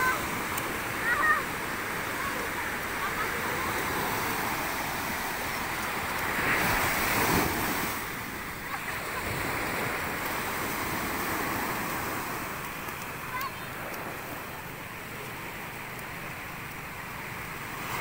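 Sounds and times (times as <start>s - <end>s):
ocean waves breaking on sand: 0.0s - 18.0s.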